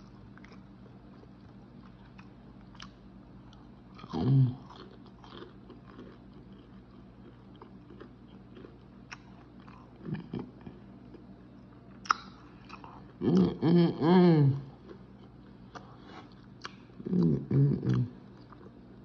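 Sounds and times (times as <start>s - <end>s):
chewing crunchy fried food: 0.0s - 19.0s.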